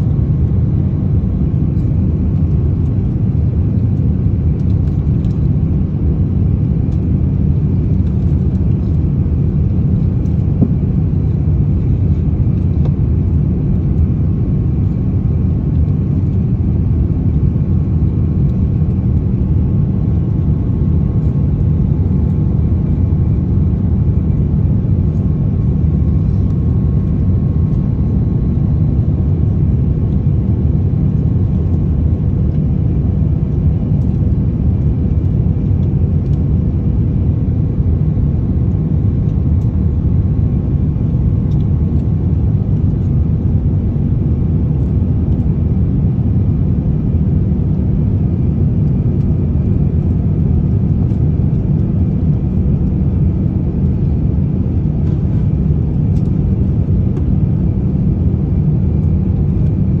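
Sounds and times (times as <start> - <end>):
airliner cabin rumble: 0.0 - 60.0
faint steady whine: 0.0 - 60.0.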